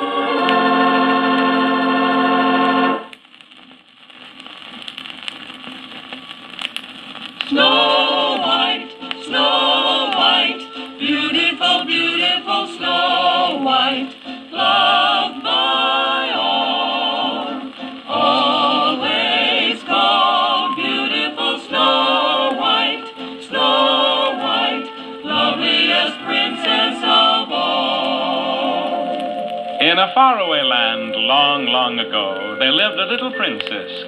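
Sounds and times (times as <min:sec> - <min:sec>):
group of voices singing on record: 0:00.0 - 0:03.1, 0:07.5 - 0:34.0.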